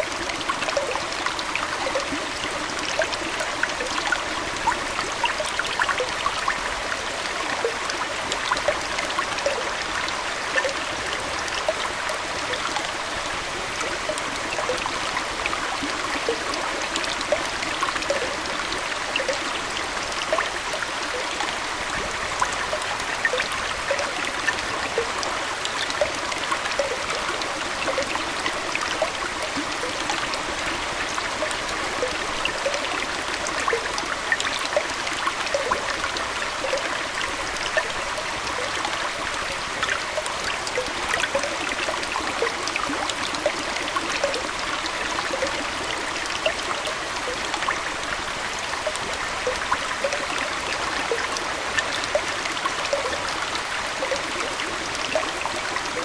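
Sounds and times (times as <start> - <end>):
aquarium water trickling: 0.0 - 56.0
small water plinks and splashes: 0.0 - 56.0.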